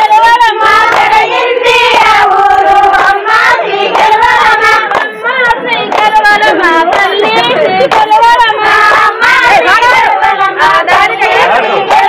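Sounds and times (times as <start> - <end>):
women singing in unison: 0.0 - 12.0
hand claps: 0.1 - 12.0.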